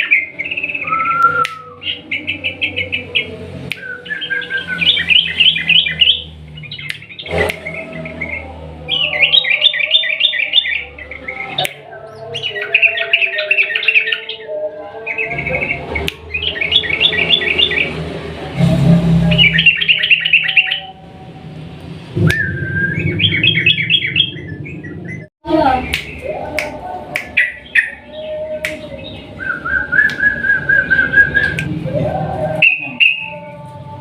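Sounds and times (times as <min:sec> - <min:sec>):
bulbul singing bubbly phrases: 0:00.0 - 0:34.0.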